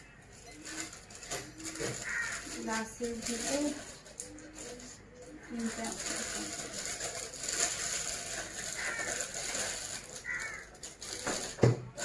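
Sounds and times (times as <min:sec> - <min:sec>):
plastic bag crinkling: 0:00.3 - 0:12.0.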